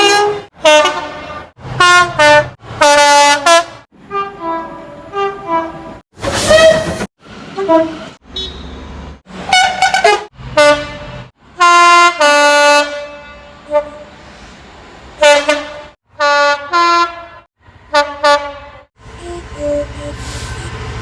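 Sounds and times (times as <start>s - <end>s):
train air horn blasts: 0.0s - 7.0s, 9.5s - 14.2s, 15.2s - 20.9s.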